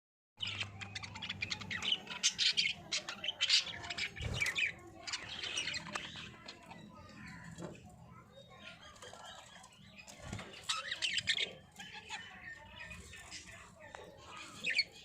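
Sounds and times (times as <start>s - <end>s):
budgerigars chirping and warbling: 0.4s - 15.0s.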